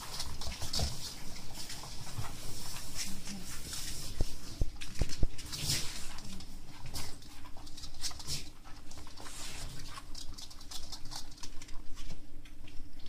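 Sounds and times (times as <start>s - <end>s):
puppies scampering: 0.0s - 13.0s.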